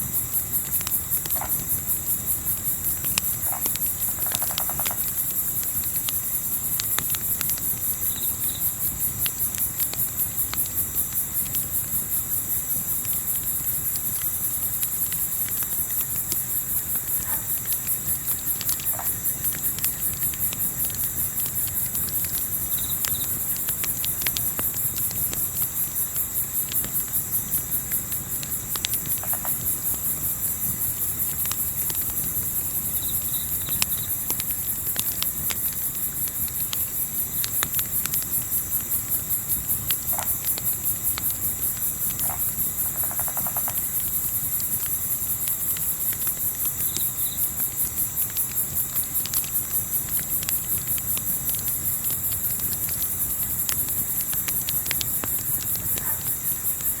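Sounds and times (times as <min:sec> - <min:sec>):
campfire crackling: 0:00.0 - 0:57.0
crickets chirring: 0:00.0 - 0:57.0.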